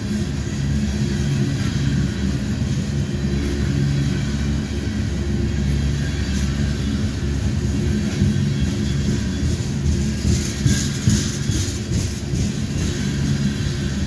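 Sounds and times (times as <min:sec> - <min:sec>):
steel train wheels rumbling on rails: 0:00.0 - 0:14.0.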